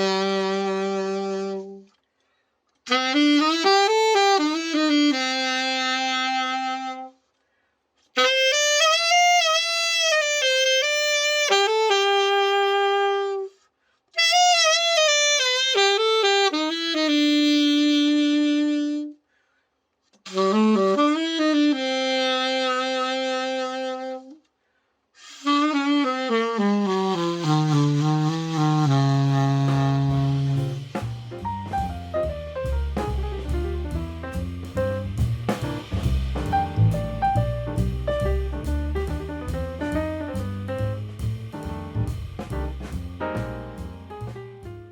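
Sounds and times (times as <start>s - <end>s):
alto saxophone solo: 0.0s - 2.1s, 2.8s - 7.4s, 8.1s - 19.4s, 20.2s - 24.6s, 25.2s - 44.9s.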